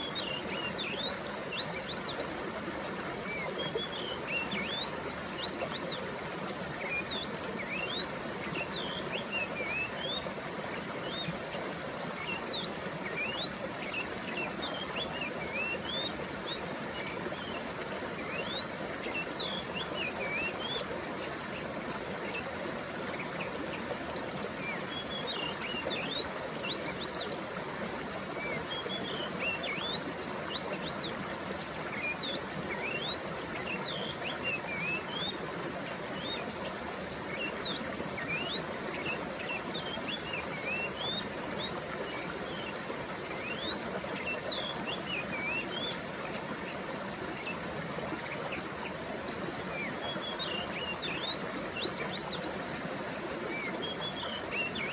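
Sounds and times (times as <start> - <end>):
small birds chirping: 0.0 - 54.9
water flowing: 0.0 - 54.9.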